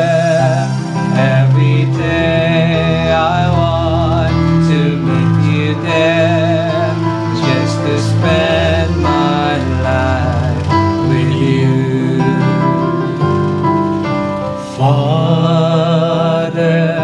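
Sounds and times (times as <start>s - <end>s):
bass: 0.0s - 17.0s
guitar: 0.0s - 17.0s
person singing: 0.0s - 17.0s.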